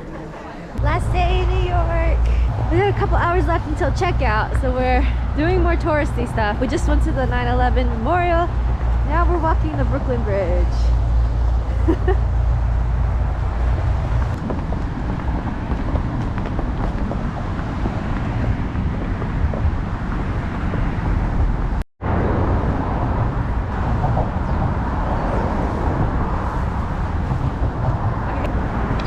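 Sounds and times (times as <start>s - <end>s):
road traffic rumble: 0.0s - 29.0s
wind on microphone: 0.8s - 29.0s.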